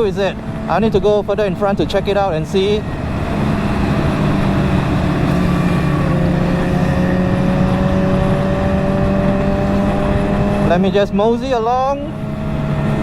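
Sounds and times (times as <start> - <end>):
motorcycle engine running: 0.0 - 13.0
rushing wind: 0.0 - 13.0.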